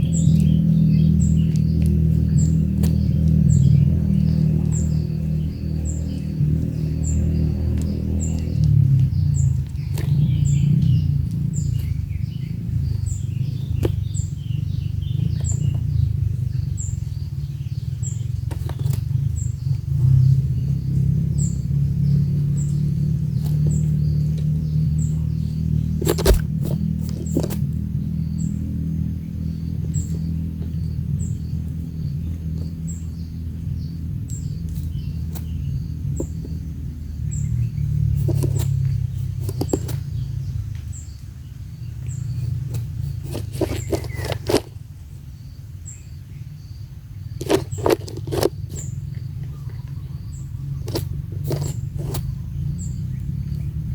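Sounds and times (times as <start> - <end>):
birds chattering: 0.0 - 53.9.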